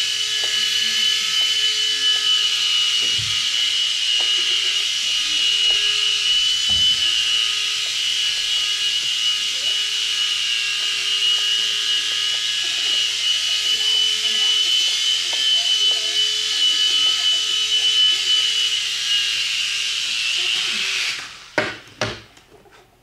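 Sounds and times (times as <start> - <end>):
toy helicopter motor whine: 0.0 - 22.3.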